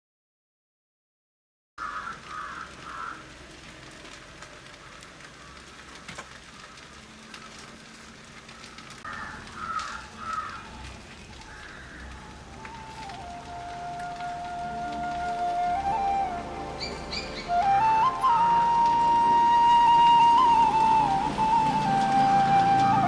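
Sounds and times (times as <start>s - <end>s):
rain falling: 1.8s - 23.0s
sharp drips and clicks: 2.0s - 23.0s.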